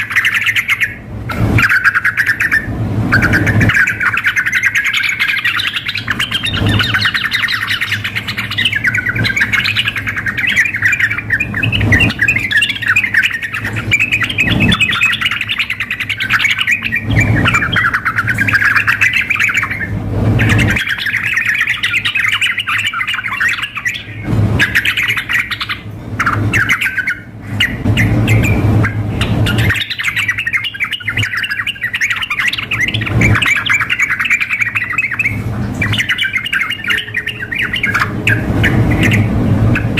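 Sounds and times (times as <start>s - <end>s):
birds singing and chattering: 0.0s - 39.9s.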